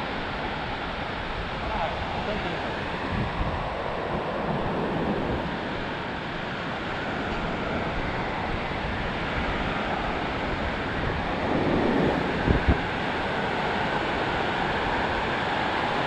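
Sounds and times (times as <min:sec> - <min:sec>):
ocean surf washing onto beach: 0:00.0 - 0:16.0
wind buffeting the microphone: 0:00.0 - 0:16.0.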